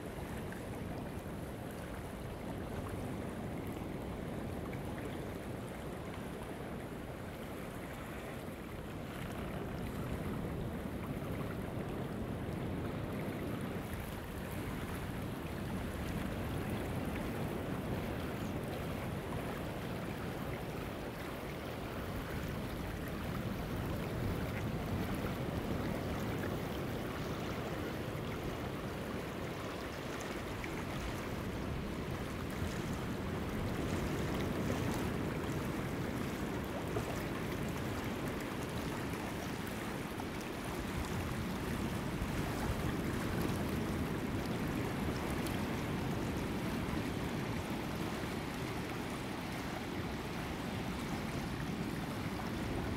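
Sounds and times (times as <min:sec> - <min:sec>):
wind rumble on microphone: 0:00.0 - 0:52.9.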